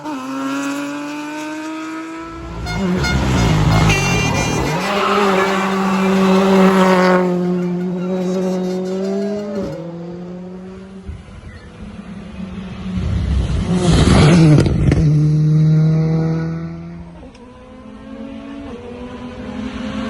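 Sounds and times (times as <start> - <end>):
car engine approaching: 0.0 - 20.0
rally car passing: 0.0 - 20.0.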